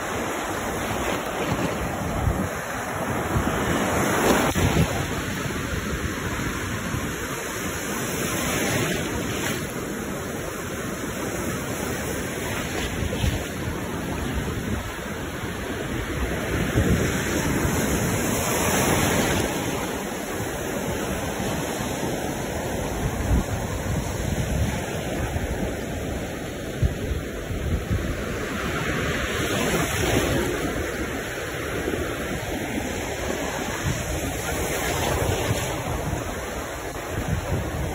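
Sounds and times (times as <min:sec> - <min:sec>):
small waves breaking: 0:00.0 - 0:37.9.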